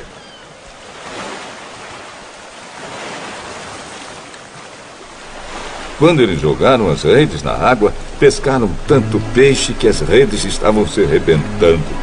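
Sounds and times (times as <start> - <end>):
lake waves washing: 0.0 - 12.0.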